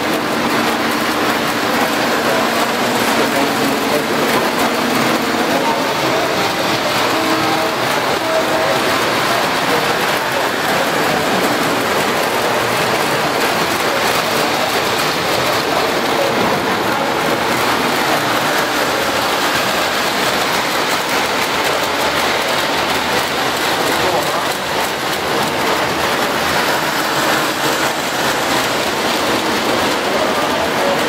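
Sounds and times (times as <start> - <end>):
model trains rattling on metal track: 0.0 - 31.0.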